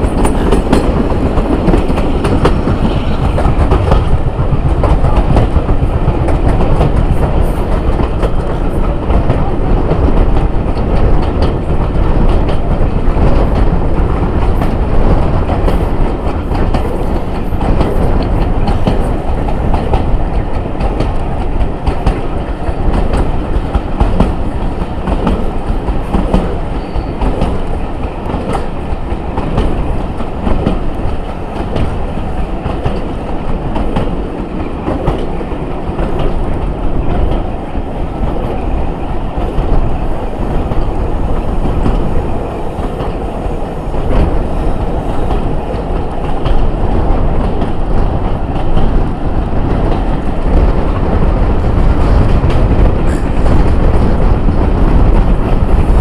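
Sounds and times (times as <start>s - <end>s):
train running at speed: 0.0s - 56.0s
wheels clicking over rail joints: 0.0s - 56.0s.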